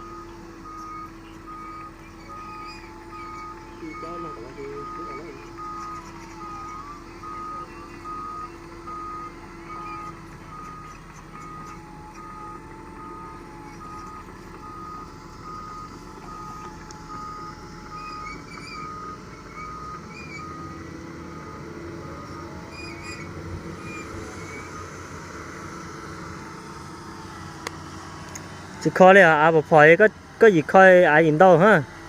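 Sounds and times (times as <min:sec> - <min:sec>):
back-up alarm beeping: 0:00.0 - 0:30.1
diesel engine running: 0:00.0 - 0:32.0.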